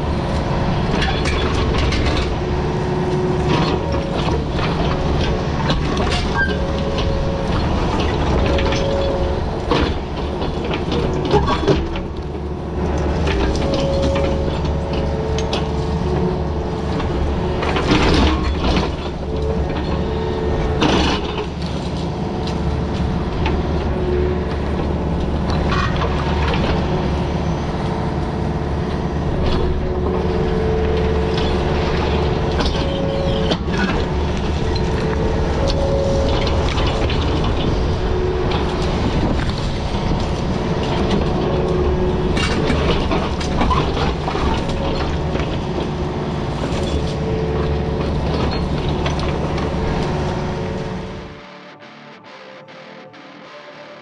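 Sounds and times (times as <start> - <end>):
excavator diesel engine: 0.0 - 54.0
hydraulic whine: 0.0 - 54.0.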